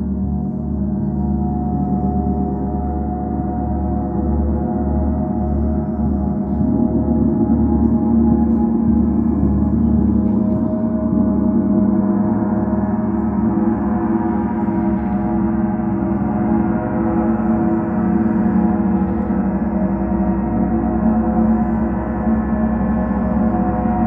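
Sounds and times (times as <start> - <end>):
gongs played with mallets: 0.0 - 24.0.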